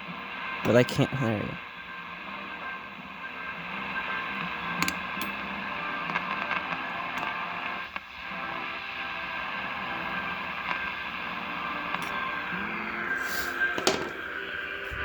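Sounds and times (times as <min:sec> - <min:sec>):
radio crackles: 0:00.0 - 0:15.0
radio static hiss: 0:00.0 - 0:15.0.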